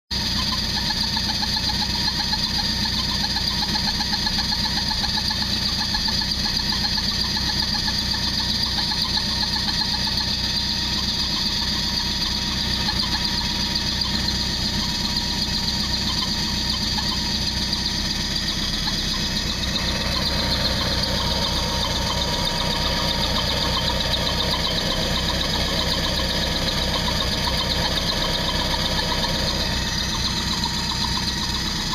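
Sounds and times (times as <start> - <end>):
marine engine running: 0.1 - 31.9.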